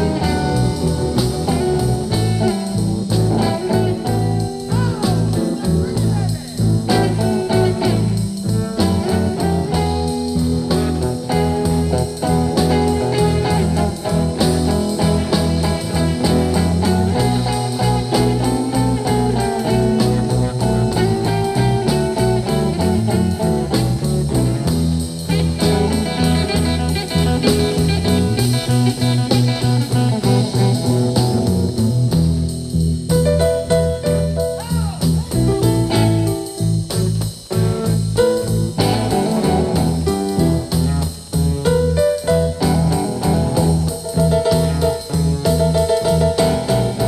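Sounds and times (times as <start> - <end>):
bass line and beat: 0.0 - 47.0
blues guitar playing: 0.0 - 47.0.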